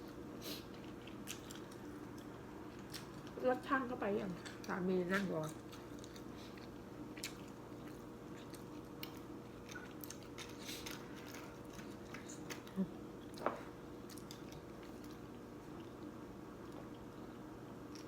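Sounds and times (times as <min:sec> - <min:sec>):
person chewing food: 0:00.1 - 0:03.4, 0:04.4 - 0:18.0.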